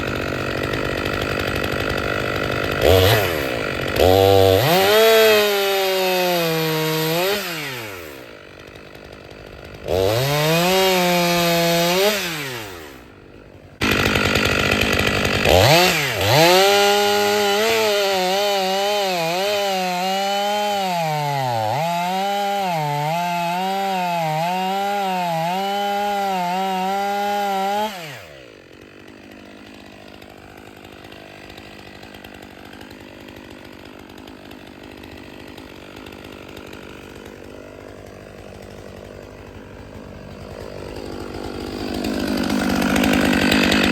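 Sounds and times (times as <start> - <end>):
chainsaw cutting firewood: 0.0 - 43.9.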